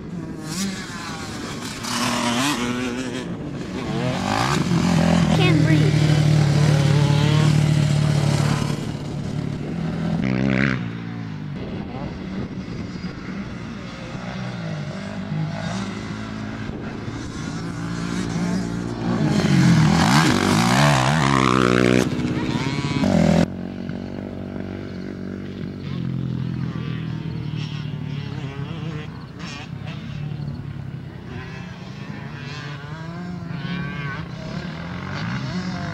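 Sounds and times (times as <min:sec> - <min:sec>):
dirt bike engines revving: 0:00.0 - 0:35.9.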